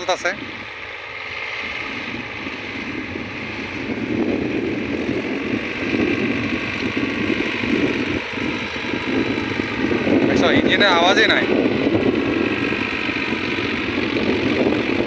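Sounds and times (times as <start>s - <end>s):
tractor diesel engine: 0.0s - 15.0s.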